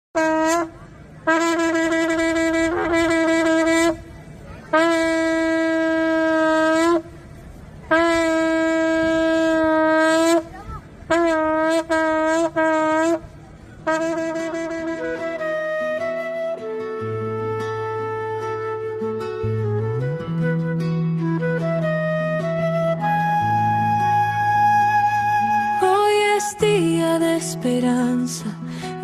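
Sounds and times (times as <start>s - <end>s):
shofar blasts: 0.2s - 4.0s, 4.7s - 7.2s, 7.9s - 10.5s, 11.1s - 20.8s, 21.4s - 26.7s.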